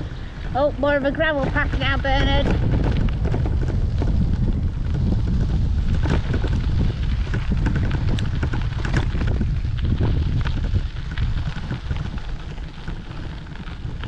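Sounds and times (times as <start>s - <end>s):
bicycle tyres on gravel: 0.0s - 14.0s
wind buffeting microphone: 0.0s - 14.0s.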